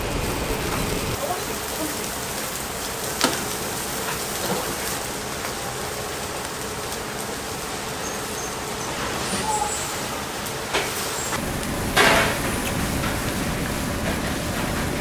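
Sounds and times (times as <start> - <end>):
busy kitchen rushing hiss: 0.0 - 15.0.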